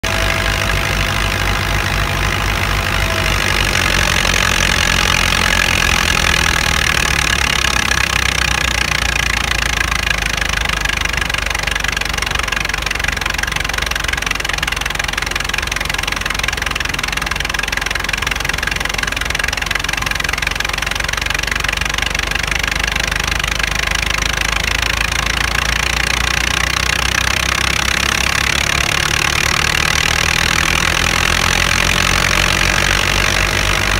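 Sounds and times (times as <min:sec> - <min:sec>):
grain thresher rushing: 0:00.0 - 0:33.9
tractor diesel engine running: 0:00.0 - 0:33.9.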